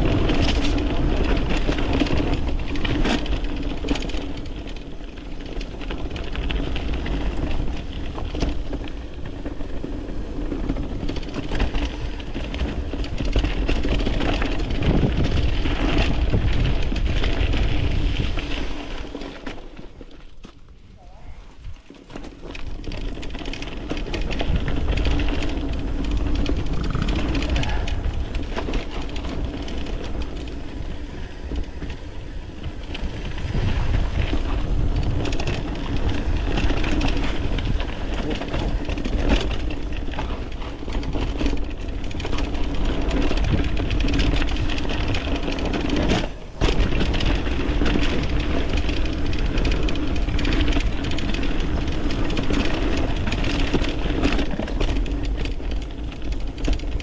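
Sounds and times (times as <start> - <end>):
bike rattling and knocking: 0.0 - 57.0
bike tyre rumble on dirt: 0.0 - 57.0.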